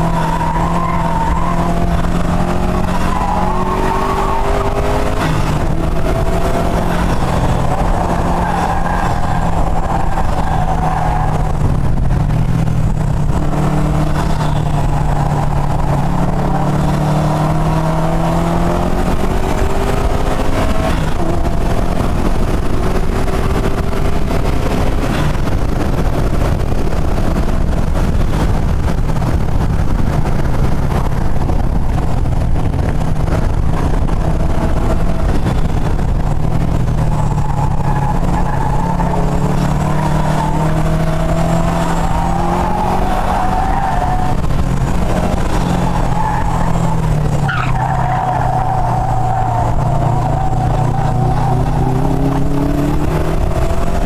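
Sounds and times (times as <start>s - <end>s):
car engine accelerating hard: 0.0s - 54.0s
wind and road noise: 0.0s - 54.0s.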